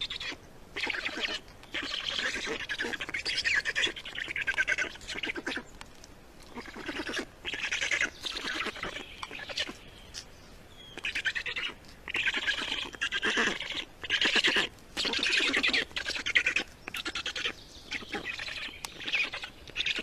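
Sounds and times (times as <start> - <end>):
small bird calling: 0.0 - 20.0.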